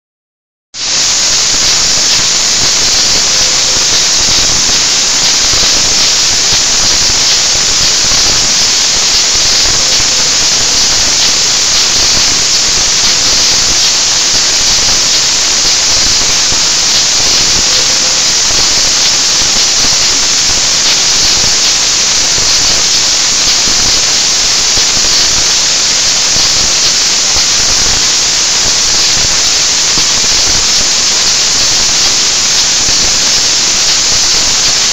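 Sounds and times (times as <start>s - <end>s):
tape slitting machine hissing: 0.8s - 34.9s.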